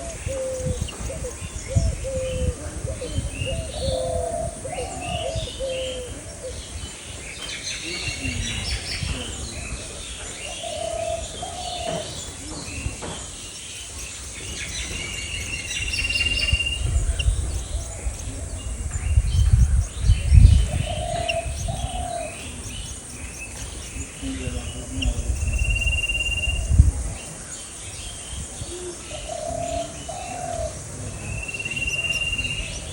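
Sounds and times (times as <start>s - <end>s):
dove cooing: 0.0s - 6.8s, 7.8s - 12.5s, 14.6s - 27.2s, 28.6s - 32.9s
birds chirping: 0.0s - 32.9s.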